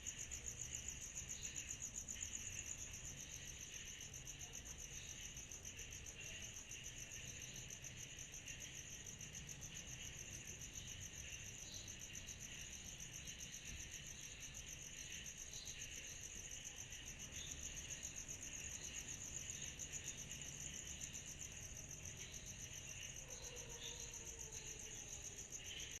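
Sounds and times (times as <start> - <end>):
insects chirping: 0.0 - 26.0
insects trilling: 0.0 - 26.0.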